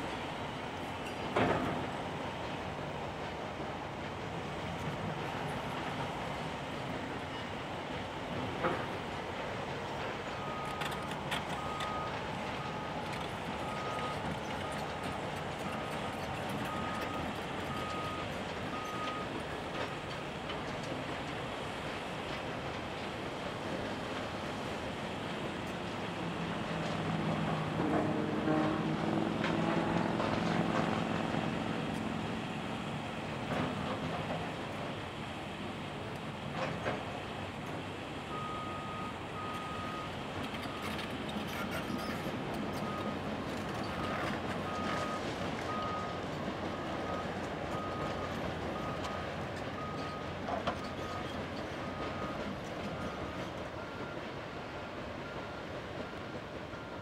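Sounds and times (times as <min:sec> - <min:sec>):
diesel excavator engines: 0:00.0 - 0:57.0.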